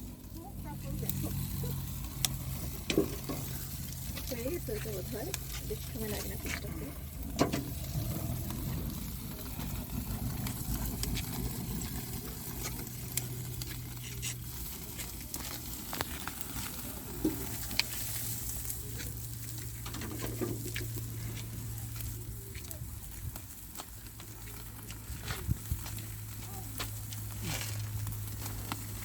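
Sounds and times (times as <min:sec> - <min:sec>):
food sizzling on a grill: 0:00.0 - 0:29.0.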